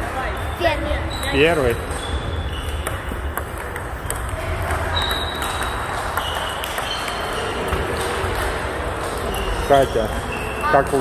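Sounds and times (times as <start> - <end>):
table tennis balls clicking: 1.8 - 11.0.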